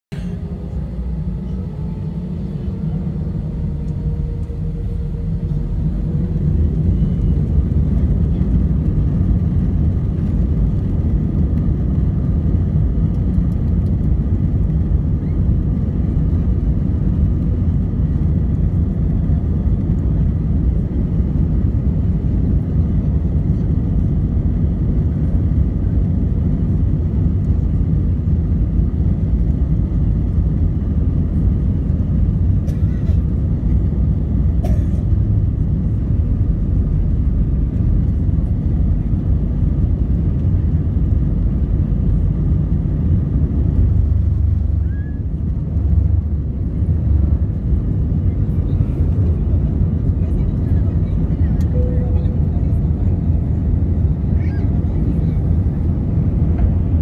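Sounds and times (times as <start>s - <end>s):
jet cabin rumble: 0.1s - 57.0s.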